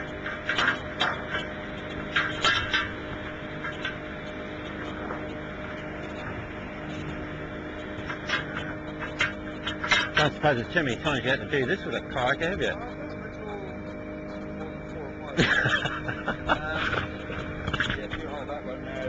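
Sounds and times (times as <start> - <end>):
mechanical hum with held tones: 0.0 - 19.0.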